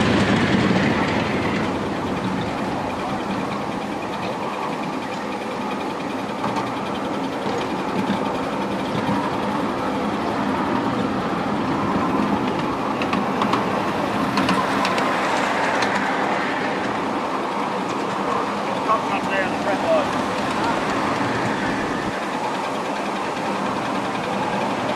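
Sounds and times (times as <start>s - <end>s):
miniature train wheels clicking on rails: 0.0s - 24.9s.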